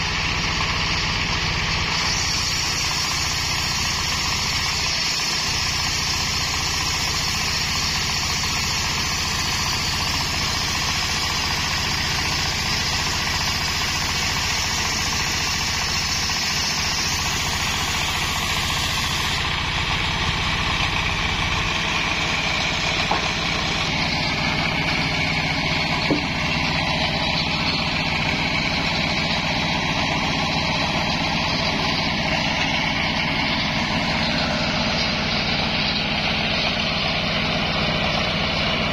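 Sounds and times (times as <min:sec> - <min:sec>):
circular saw cutting wood: 0:00.0 - 0:38.9
diesel engine running: 0:00.0 - 0:38.9.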